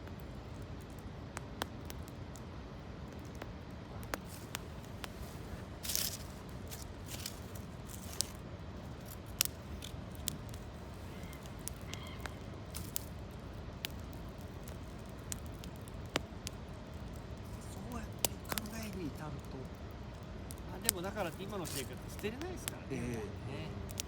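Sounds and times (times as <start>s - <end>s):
campfire crackling and popping: 0.0s - 24.0s
steady low rush: 0.0s - 24.0s.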